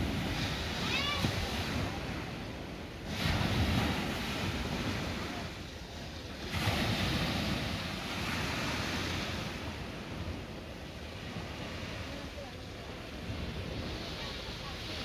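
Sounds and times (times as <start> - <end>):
sea waves breaking on beach: 0.0 - 15.0
wind on microphone: 0.0 - 15.0.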